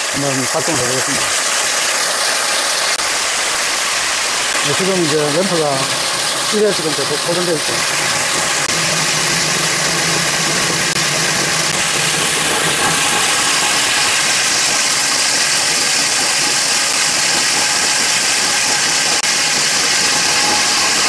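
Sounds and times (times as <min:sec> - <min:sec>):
core drill cutting concrete: 0:00.0 - 0:21.0.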